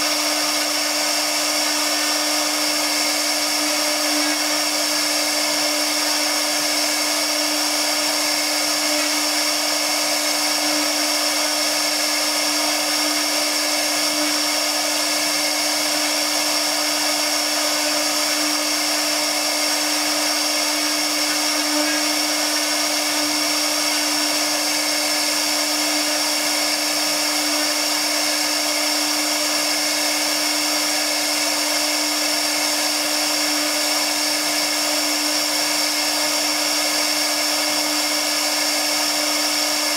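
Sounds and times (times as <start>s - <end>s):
hiss of cutting: 0.0s - 39.8s
cnc router spindle whine: 0.0s - 39.9s.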